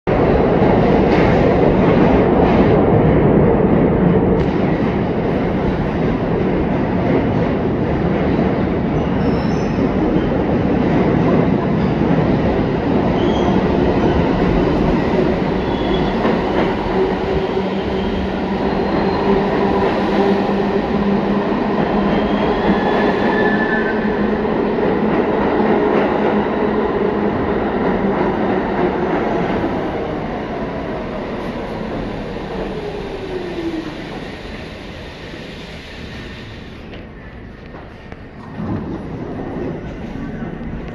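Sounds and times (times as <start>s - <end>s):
subway train rumble: 0.0s - 40.9s.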